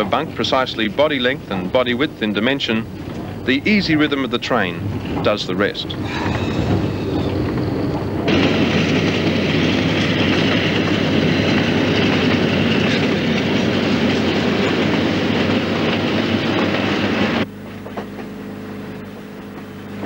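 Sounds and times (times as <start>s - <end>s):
moving train noise: 0.0s - 20.0s.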